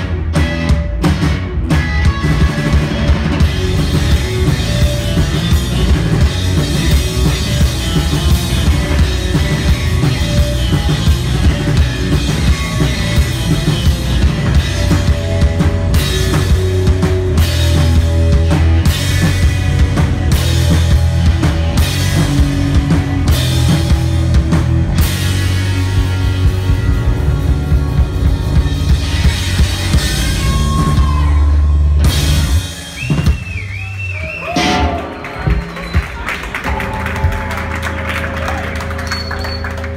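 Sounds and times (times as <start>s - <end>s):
rock band playing loudly: 0.0s - 39.9s.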